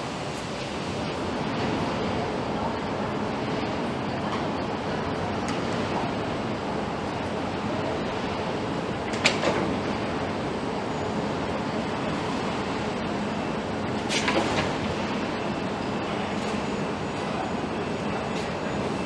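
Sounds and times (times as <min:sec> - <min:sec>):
factory floor noise: 0:00.0 - 0:19.0.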